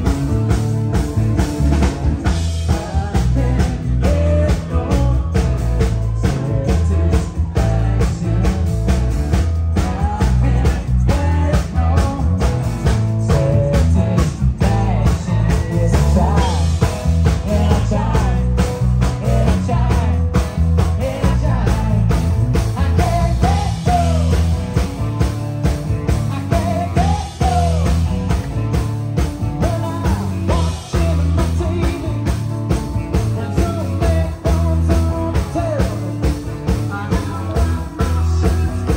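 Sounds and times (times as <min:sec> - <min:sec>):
bass guitar: 0:00.0 - 0:38.9
drums and cymbals: 0:00.0 - 0:38.9
guitar: 0:00.0 - 0:38.9.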